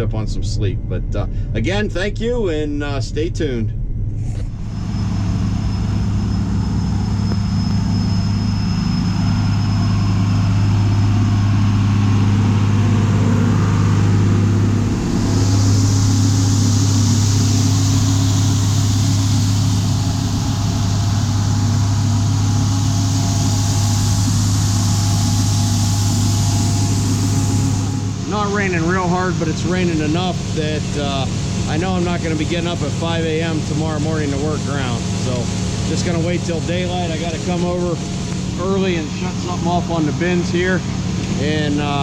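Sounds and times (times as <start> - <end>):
vehicle engine humming: 3.7 - 42.0
steady hiss: 4.7 - 42.0.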